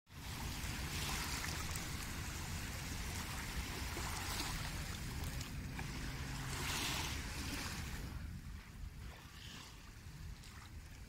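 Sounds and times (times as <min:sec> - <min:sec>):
constant low rumble: 0:00.1 - 0:11.0
small waves lapping on shore: 0:00.1 - 0:11.0.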